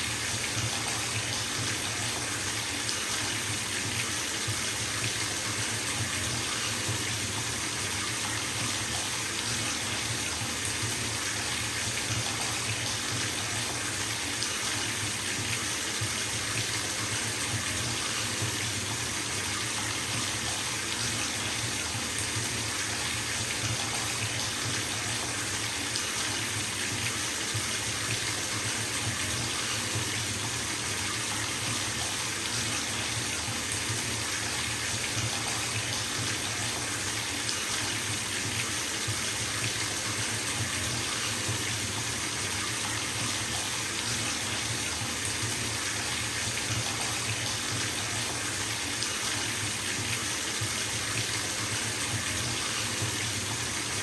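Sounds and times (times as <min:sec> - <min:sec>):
water running into bathtub: 0:00.0 - 0:54.0.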